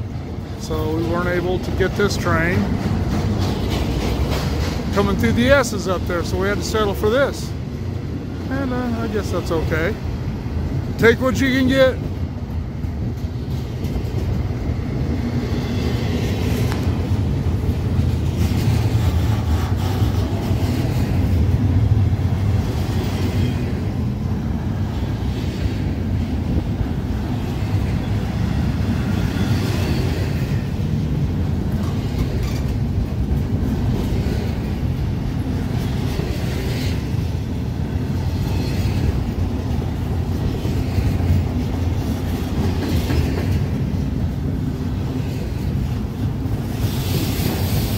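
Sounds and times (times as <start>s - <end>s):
train wheels clattering: 0.0s - 8.2s, 9.2s - 47.9s
freight train rumbling past: 0.0s - 47.9s.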